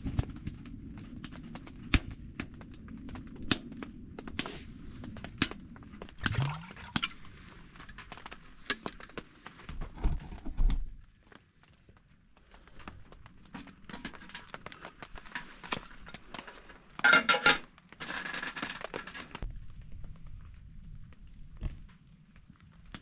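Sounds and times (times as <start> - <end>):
wood stove fire crackling: 0.0 - 10.0, 10.7 - 23.0.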